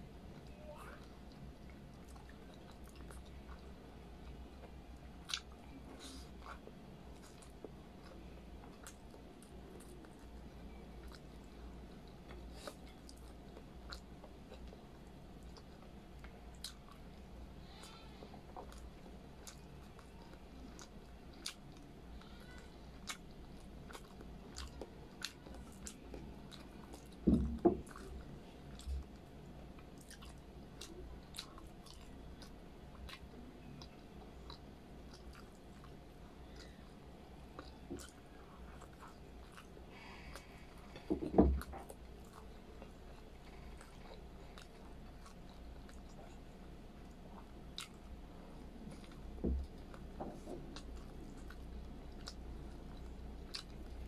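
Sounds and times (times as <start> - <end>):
person chewing wetly: 0.2 - 54.0.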